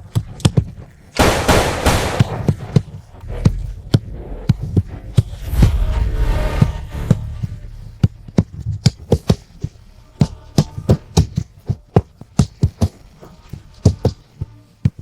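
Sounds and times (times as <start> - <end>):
low steady hum: 2.0 - 14.6.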